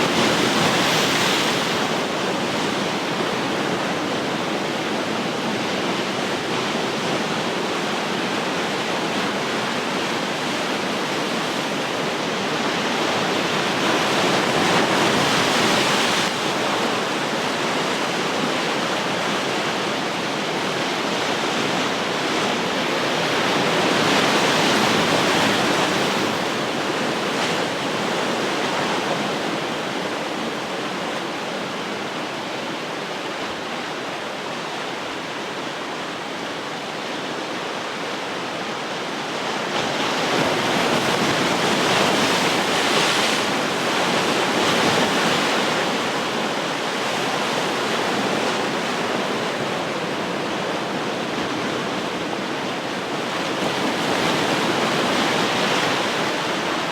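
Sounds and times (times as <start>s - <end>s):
ocean surf washing ashore: 0.0s - 56.9s.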